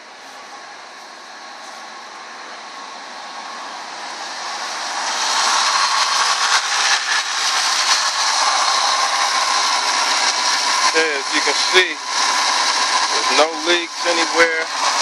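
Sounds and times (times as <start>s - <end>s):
car engine whirring: 0.0s - 15.0s.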